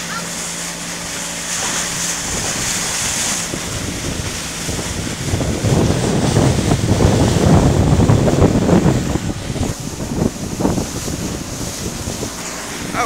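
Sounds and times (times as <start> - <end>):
water splashing along boat hull: 0.0 - 13.0
wind buffeting microphone: 0.0 - 13.0.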